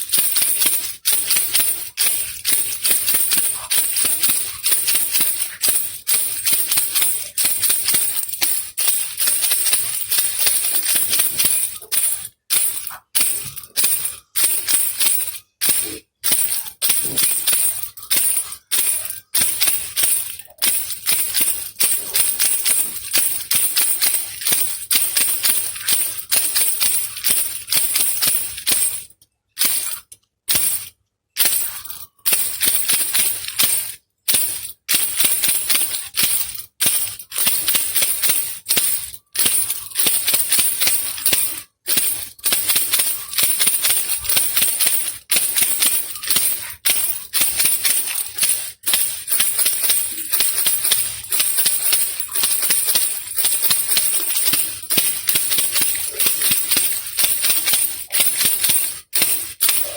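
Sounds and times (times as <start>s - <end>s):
baby rattle shaken: 0.0s - 59.9s.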